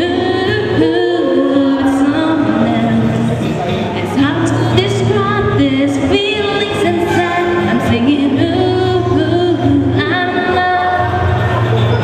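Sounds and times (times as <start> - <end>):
woman singing: 0.0 - 11.5
instrumental backing music: 0.0 - 12.0.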